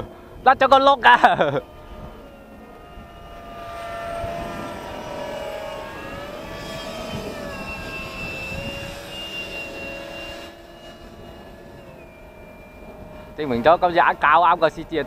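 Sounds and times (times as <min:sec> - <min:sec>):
model jet electric motor whining: 0:00.0 - 0:15.0.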